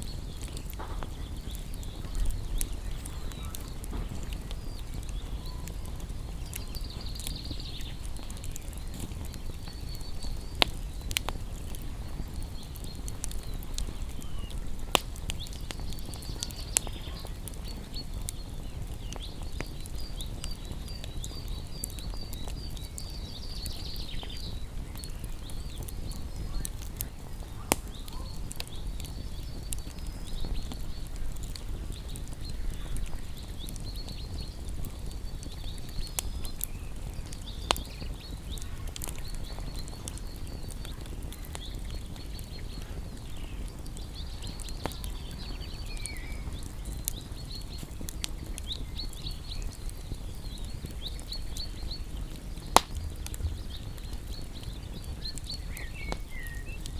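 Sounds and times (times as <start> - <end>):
fire crackling pops: 0.0 - 56.9
songbirds twittering: 0.0 - 56.9
wood fire rumbling: 0.0 - 56.9.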